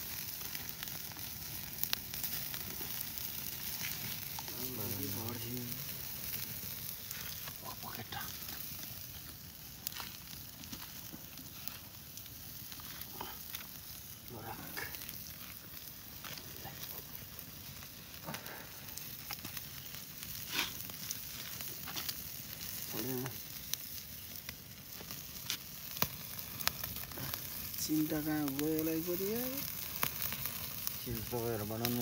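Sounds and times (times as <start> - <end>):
meat sizzling: 0.0 - 32.0
wood fire crackling and popping: 0.0 - 32.0.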